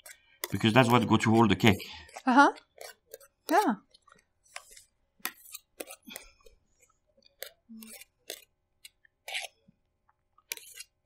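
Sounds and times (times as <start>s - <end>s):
spatula scraping metal cake ring: 0.0s - 6.4s, 7.4s - 9.6s, 10.5s - 11.0s.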